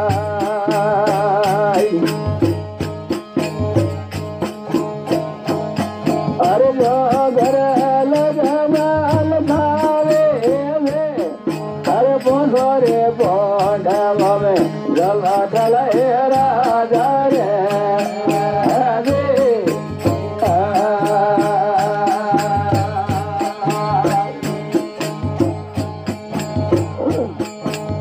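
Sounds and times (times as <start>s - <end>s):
percussion beat: 0.0s - 28.0s.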